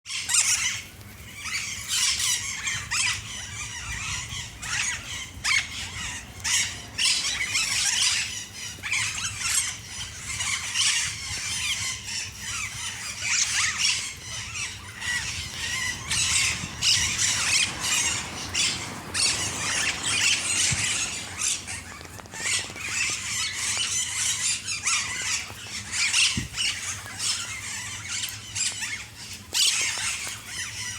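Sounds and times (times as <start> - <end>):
parakeet flock squawking: 0.1 - 30.9.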